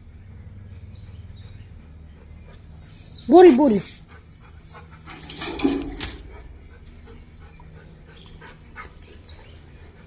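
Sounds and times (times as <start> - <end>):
dog panting: 1.1 - 10.0.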